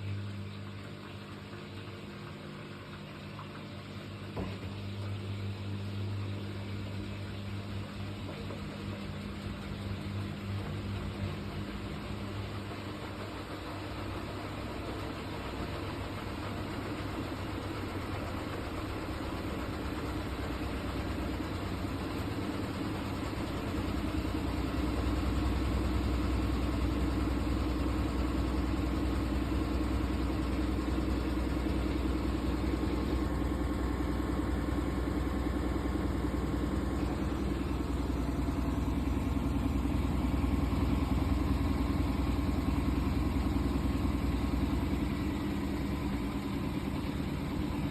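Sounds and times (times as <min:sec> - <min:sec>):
washing machine rumbling: 0:00.0 - 0:47.9.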